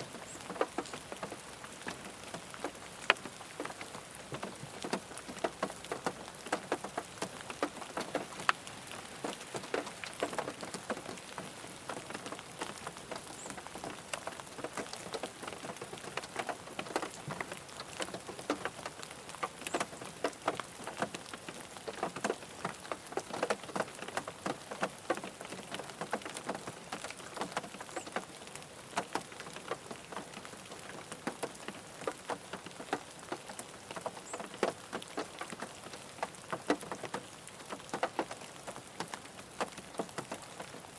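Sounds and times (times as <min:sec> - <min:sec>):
rain pattering on a car: 0:00.0 - 0:40.9.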